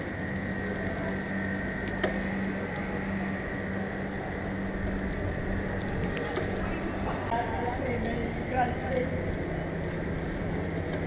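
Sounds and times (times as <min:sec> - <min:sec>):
faint high whine: 0:00.0 - 0:11.0
low mechanical hum: 0:00.0 - 0:11.0.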